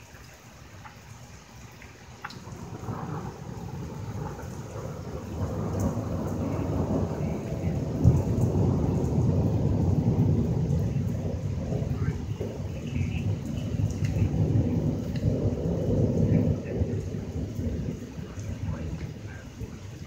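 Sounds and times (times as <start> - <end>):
steady rain: 0.0 - 20.0
rolling thunder rumble: 1.8 - 20.0.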